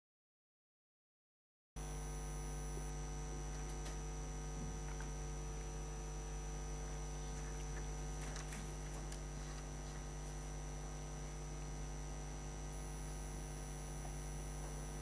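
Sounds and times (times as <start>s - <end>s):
electrical mains hum: 1.8s - 15.0s
faint high whine: 1.8s - 15.0s.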